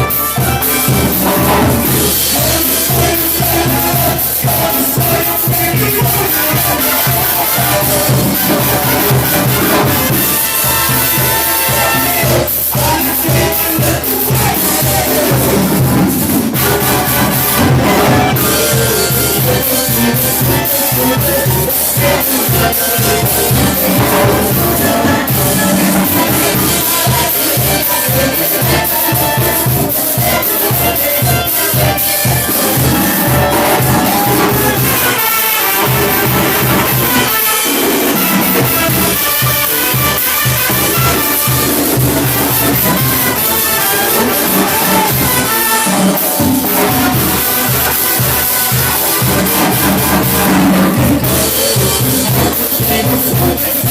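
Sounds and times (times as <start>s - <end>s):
brass band playing cumbia: 0.0s - 53.9s
drums keeping a steady beat: 0.0s - 53.9s.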